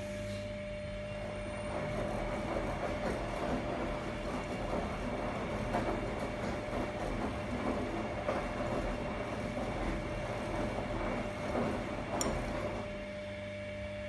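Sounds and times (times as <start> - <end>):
washing machine tumbling laundry: 0.0 - 14.0.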